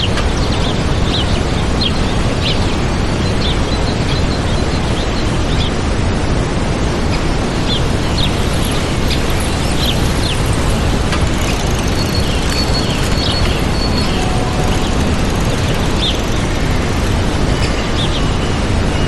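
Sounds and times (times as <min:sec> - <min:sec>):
small birds chirping: 0:00.0 - 0:06.2, 0:07.1 - 0:19.0
waterfall rushing: 0:00.8 - 0:18.9.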